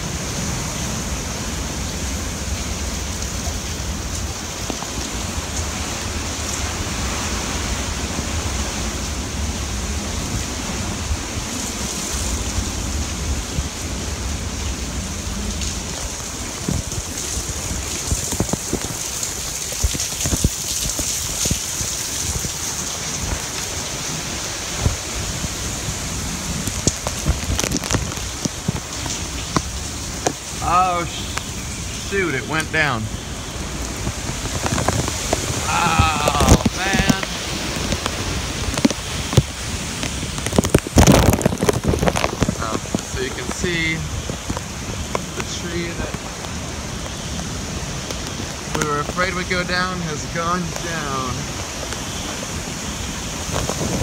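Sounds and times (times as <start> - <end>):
wind rumble on microphone: 0.0 - 30.6, 33.1 - 54.0
heavy rain pouring: 0.0 - 54.0.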